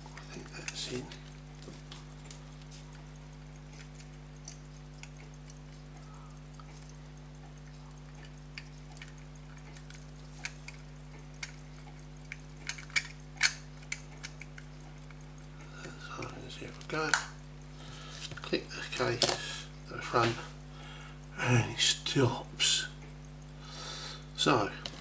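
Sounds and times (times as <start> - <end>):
metallic clicks and taps: 0.0 - 21.3, 22.0 - 25.0
steady low hum: 0.0 - 25.0.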